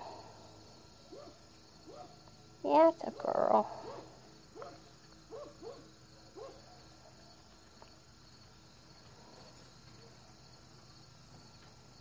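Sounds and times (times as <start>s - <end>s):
faint crickets chirring: 0.0s - 12.0s.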